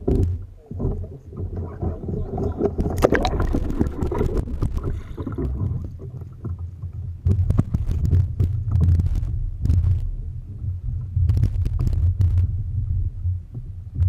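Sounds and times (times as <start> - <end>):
low rumble of water: 0.0 - 14.0
water splashing against kayak: 0.0 - 14.0
wind on microphone: 0.0 - 14.0.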